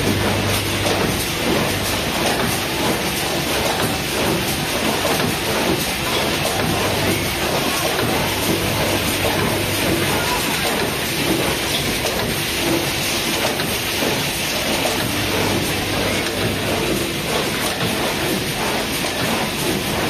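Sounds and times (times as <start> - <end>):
low machine hum: 0.0 - 13.1, 13.7 - 20.0
machine clatter and hiss: 0.0 - 20.0.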